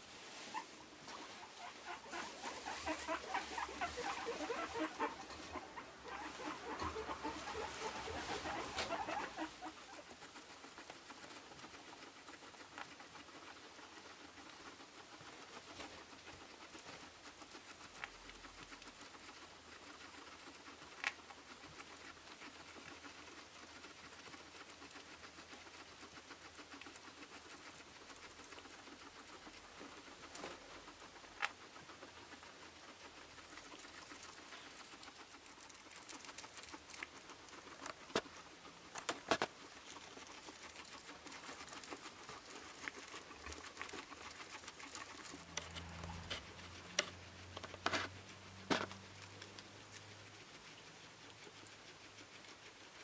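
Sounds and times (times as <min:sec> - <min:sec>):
guinea pigs chewing grass: 0:00.0 - 0:53.0.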